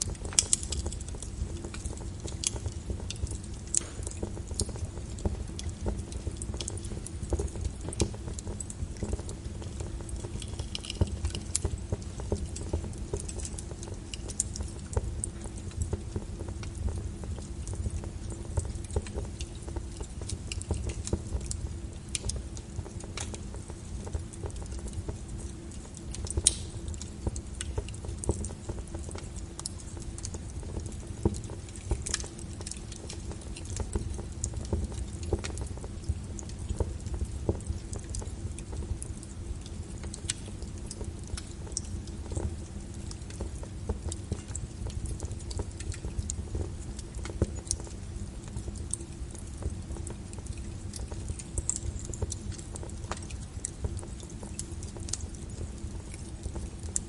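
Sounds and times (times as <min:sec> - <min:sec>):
fire burning in fireplace: 0:00.0 - 0:57.0
fire crackling and popping: 0:00.0 - 0:57.0.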